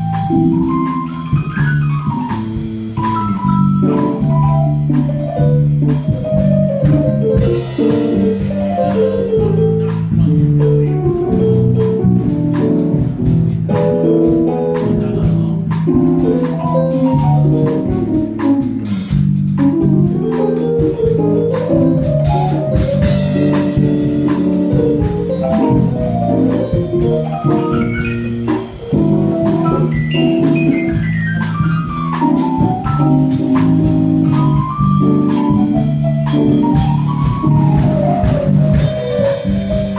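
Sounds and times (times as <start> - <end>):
drum kit: 0.0 - 39.9
keyboard solo: 0.0 - 39.9
walking bass: 0.0 - 39.9.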